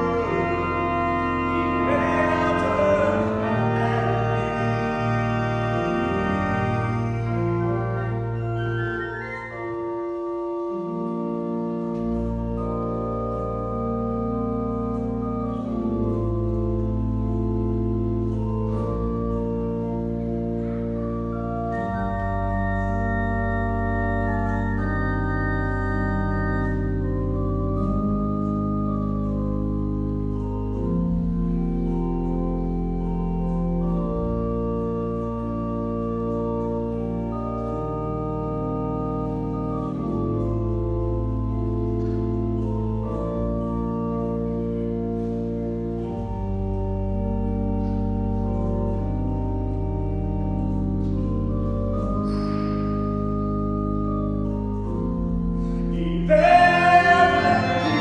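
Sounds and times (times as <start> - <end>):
pipe organ playing chords: 0.0 - 58.0.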